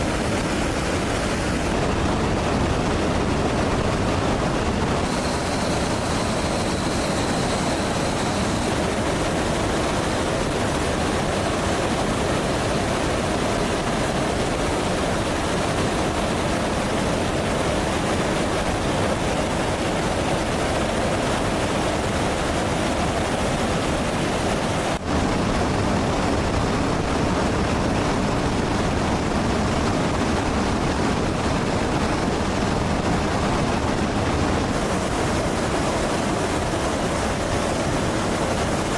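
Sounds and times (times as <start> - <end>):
jet aircraft roar: 0.0 - 38.9.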